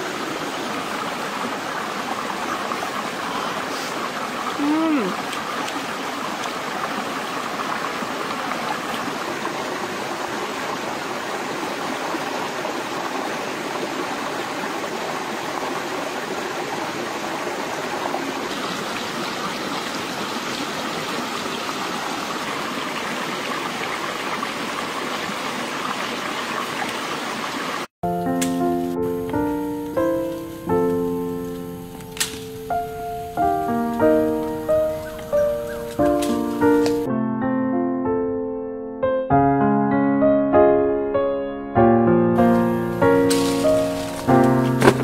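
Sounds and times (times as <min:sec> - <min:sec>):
water rushing over stones: 0:00.0 - 0:37.1, 0:42.4 - 0:45.0.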